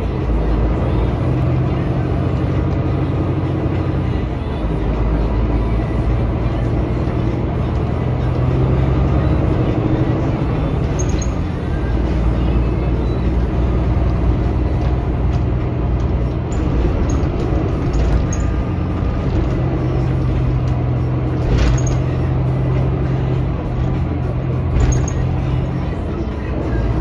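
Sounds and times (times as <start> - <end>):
coach engine and road drone: 0.0 - 27.0
interior rattles and clicks: 0.0 - 27.0.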